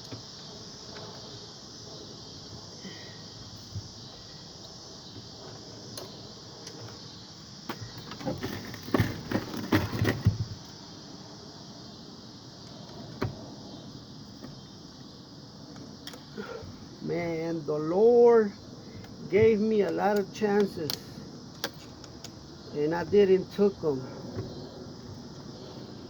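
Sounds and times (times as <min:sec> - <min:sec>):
steady high hiss: 0:00.0 - 0:09.4, 0:10.1 - 0:26.0.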